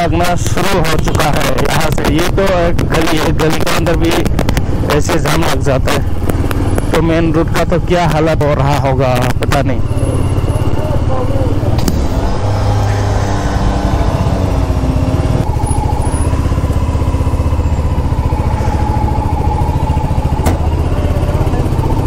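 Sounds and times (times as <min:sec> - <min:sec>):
motorcycle engine chugging: 0:00.0 - 0:22.0.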